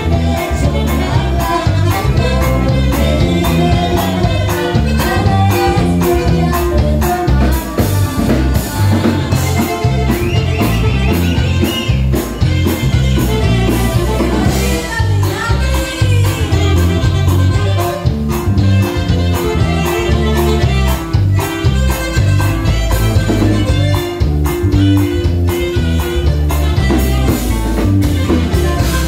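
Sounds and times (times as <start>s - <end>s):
accordion: 0.0s - 29.0s
bajo sexto guitar: 0.0s - 29.0s
bass guitar: 0.0s - 29.0s
drums: 0.0s - 29.0s
saxophone: 0.0s - 29.0s.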